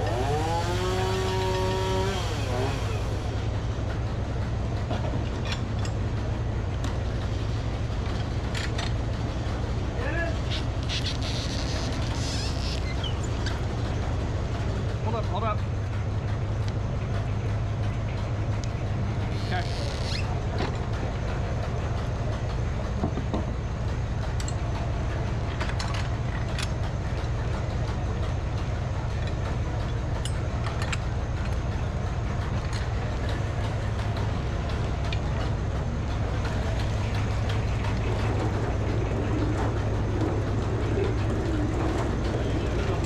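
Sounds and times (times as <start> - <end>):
sawmill engine drone: 0.0 - 43.0.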